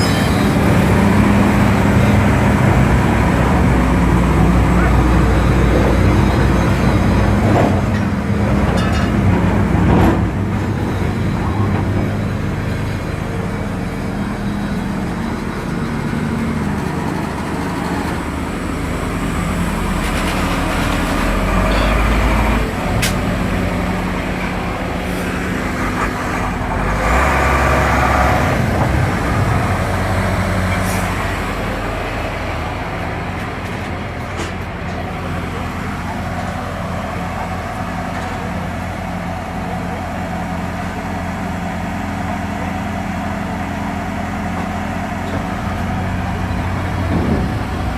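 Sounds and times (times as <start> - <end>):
heavy vehicle engine running: 0.0 - 47.9
low engine rumbles: 0.0 - 47.9.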